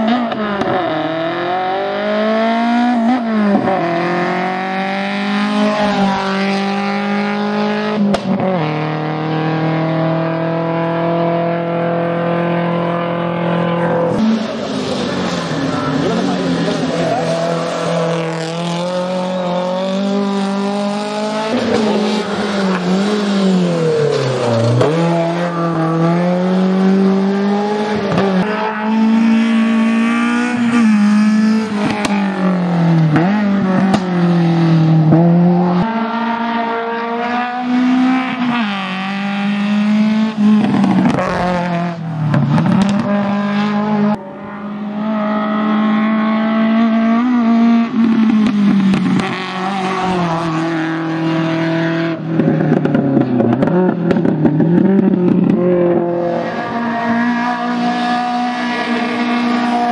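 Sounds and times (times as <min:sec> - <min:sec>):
racing car engine revving: 0:00.0 - 0:59.9.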